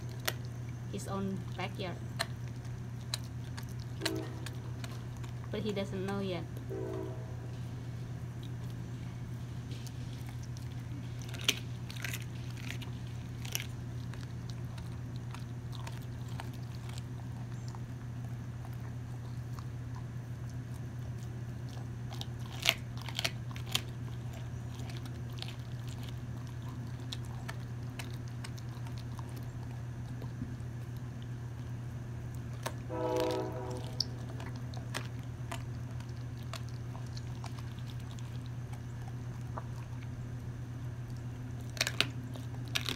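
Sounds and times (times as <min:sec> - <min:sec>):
dog chewing bone: 0:00.0 - 0:42.9
steady low hum: 0:00.0 - 0:42.9.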